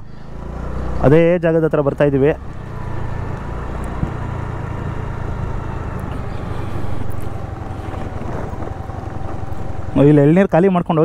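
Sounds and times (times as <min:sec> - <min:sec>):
scooter engine running: 0:00.1 - 0:10.5.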